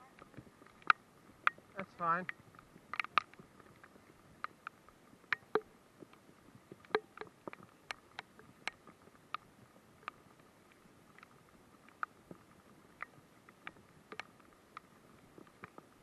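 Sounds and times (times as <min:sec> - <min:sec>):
light rain hiss: 0:00.0 - 0:16.0
raindrops tapping: 0:00.0 - 0:16.0.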